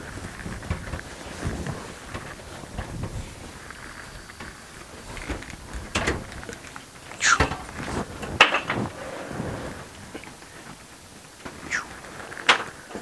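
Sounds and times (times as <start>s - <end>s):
seat scraping: 0.0s - 10.8s.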